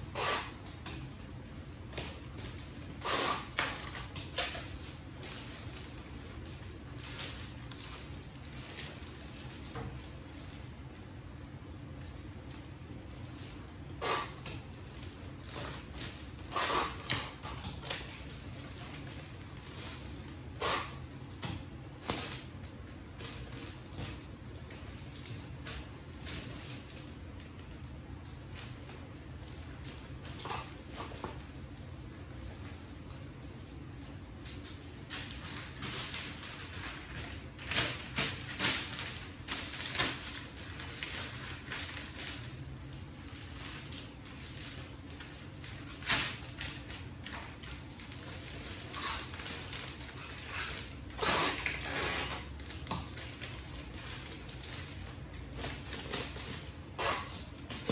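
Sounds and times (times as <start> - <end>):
wrapping paper rustling: 0.3 - 57.9.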